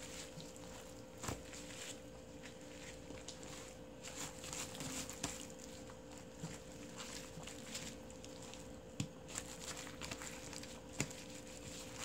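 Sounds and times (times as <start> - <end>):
faint steady hum: 0.0 - 12.0
wet squishing of cabbage leaves: 0.0 - 12.0.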